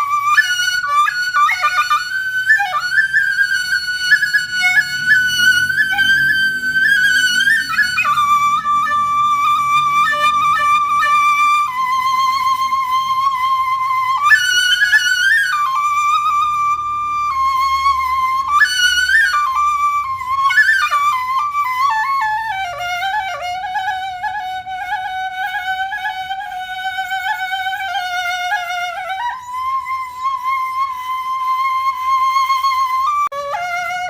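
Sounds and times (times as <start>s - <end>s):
solo flute melody: 0.0s - 34.0s.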